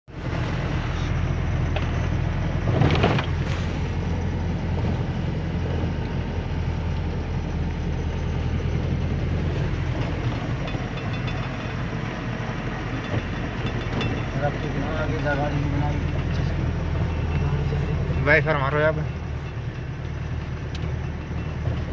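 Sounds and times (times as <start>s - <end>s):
truck engine droning: 0.0s - 21.9s.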